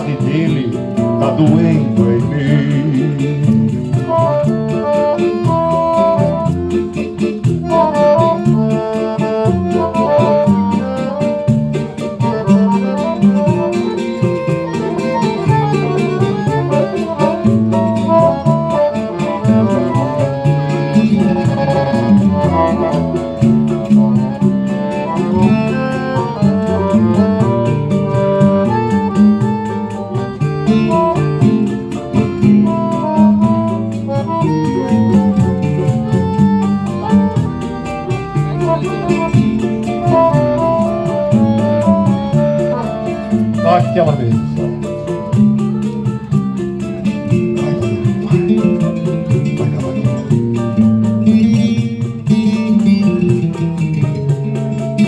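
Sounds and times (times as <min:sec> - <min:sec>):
accordion melody: 0:00.0 - 0:55.0
acoustic guitars strumming: 0:00.0 - 0:55.0
frame drum keeping time: 0:00.0 - 0:55.0.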